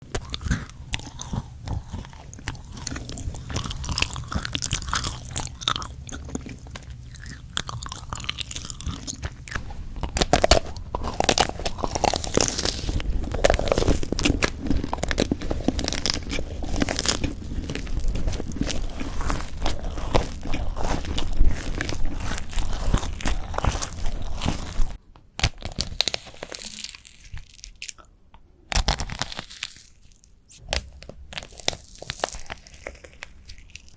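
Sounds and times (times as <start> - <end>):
crunching and chewing: 0.0 - 28.1, 28.7 - 33.9.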